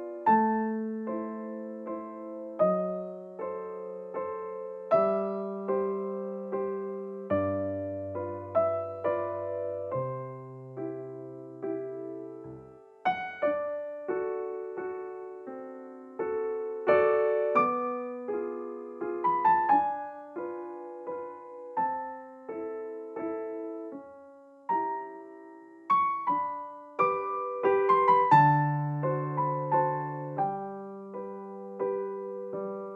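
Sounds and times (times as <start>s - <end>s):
gentle piano music: 0.0s - 32.9s.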